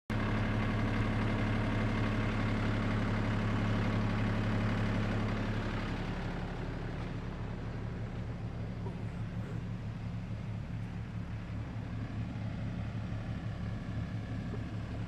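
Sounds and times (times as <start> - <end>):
tractor engine running: 0.1 - 15.0.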